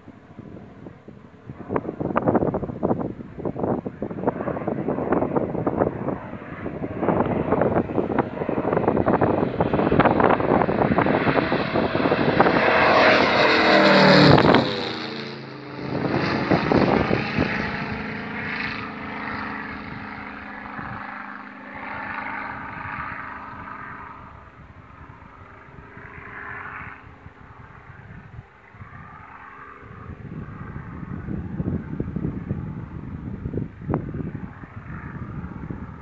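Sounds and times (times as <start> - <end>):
propeller aircraft fly-by: 0.0 - 36.0.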